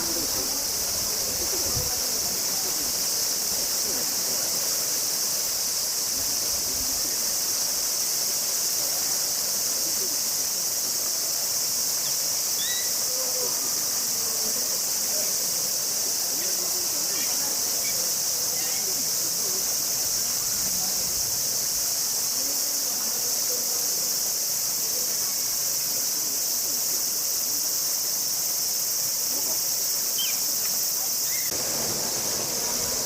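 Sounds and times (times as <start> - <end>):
faint distant voices: 0.0 - 33.0
high-pitched insect chorus: 0.0 - 33.0.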